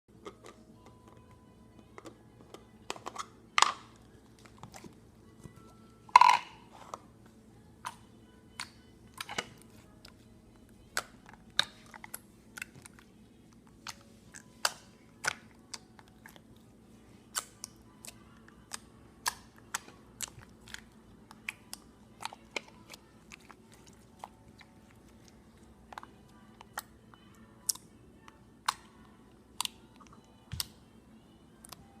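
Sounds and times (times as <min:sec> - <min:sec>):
faint steady hum: 0:00.1 - 0:32.0.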